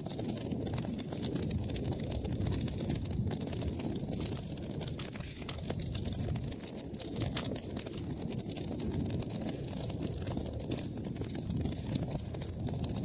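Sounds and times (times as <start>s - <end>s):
wood fire crackling: 0.0s - 13.0s
fire pop: 0.1s - 13.0s.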